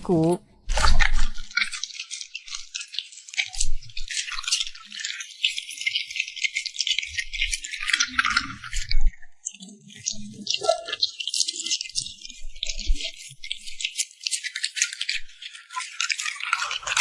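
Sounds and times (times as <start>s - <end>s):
dog chewing and crunching food: 0.7s - 17.0s.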